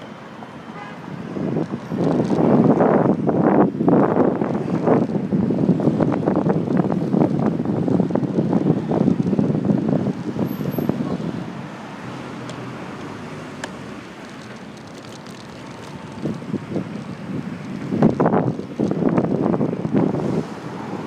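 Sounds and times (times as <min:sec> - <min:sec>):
wind buffeting microphone: 0:01.0 - 0:21.0.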